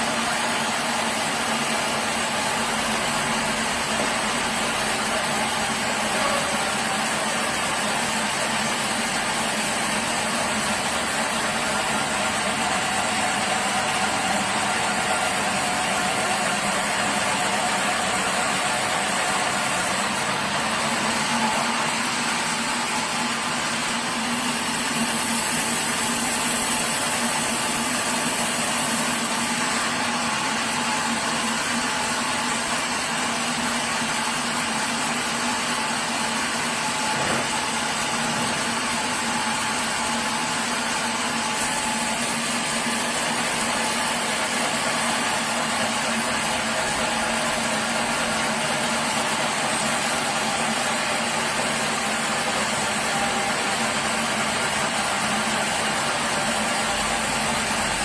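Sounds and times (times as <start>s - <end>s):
sawmill machinery droning: 0.0s - 58.0s.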